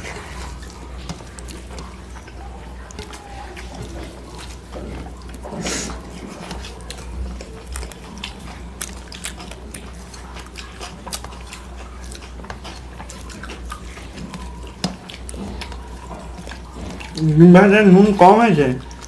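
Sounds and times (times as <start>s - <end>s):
chewing and smacking: 0.0s - 19.0s
fingers mashing rice on plates: 0.0s - 19.0s.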